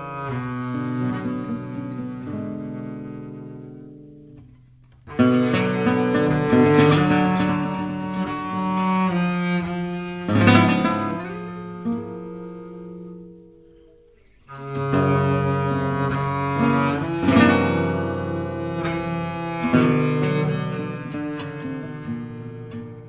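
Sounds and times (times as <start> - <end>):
low bowed strings: 0.0 - 23.0.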